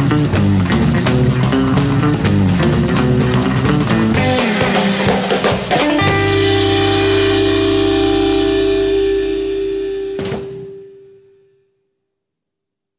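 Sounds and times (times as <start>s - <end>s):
instrumental guitar band: 0.0s - 11.5s.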